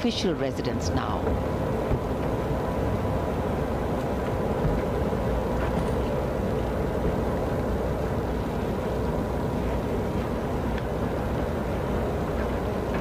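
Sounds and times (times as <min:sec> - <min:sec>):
low rumble of cars: 0:00.0 - 0:13.0.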